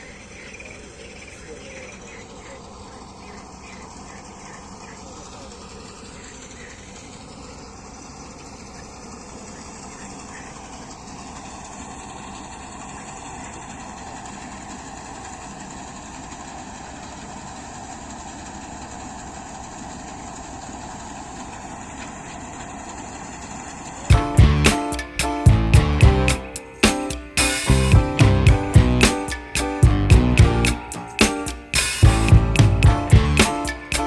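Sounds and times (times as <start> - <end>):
combine harvester running: 1.1 - 34.0.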